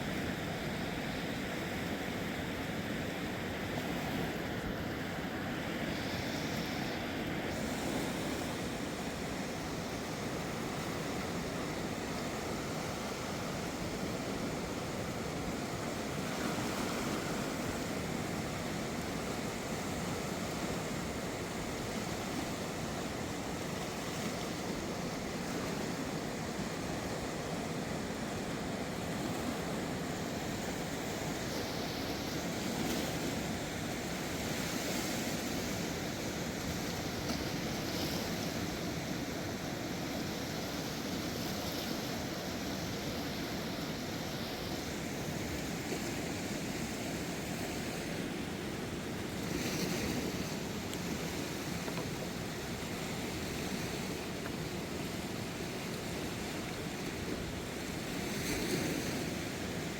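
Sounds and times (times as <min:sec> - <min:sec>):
river rushing: 0:00.0 - 0:59.9.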